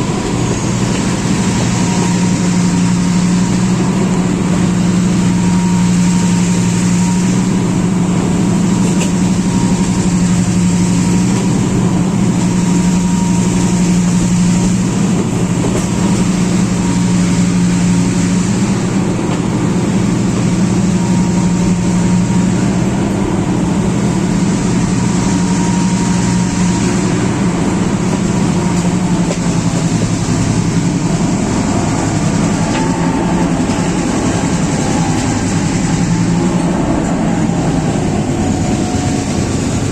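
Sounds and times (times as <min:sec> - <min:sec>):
diesel locomotive engine droning: 0:00.0 - 0:39.9.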